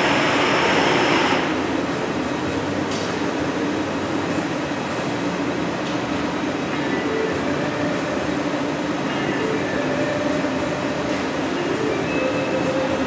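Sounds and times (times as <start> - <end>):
faint steady hum: 0.0 - 13.0
furnace burners and blowers rushing: 0.0 - 13.0.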